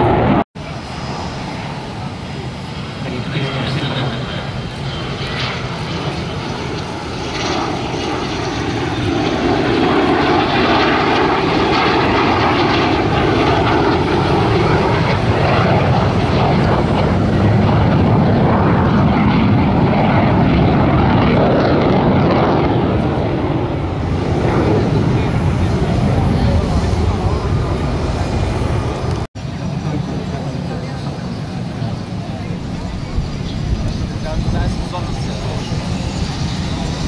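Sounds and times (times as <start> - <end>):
airplane engine running: 0.0 - 37.0.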